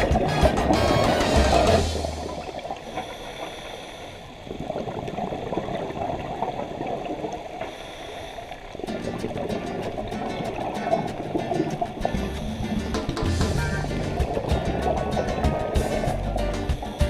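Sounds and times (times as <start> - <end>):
underwater bubbling and gurgling: 0.0 - 17.0.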